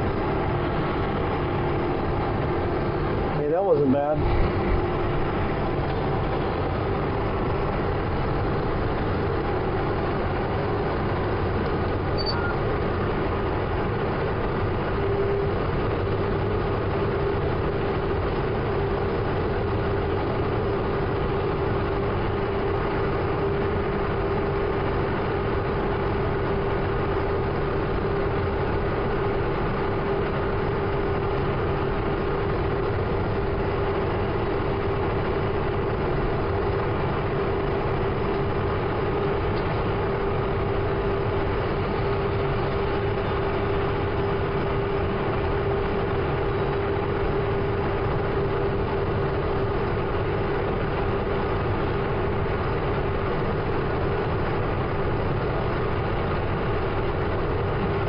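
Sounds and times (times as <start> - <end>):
steady hum-like tone: 0.0 - 58.0
tractor diesel engine running: 0.0 - 58.0.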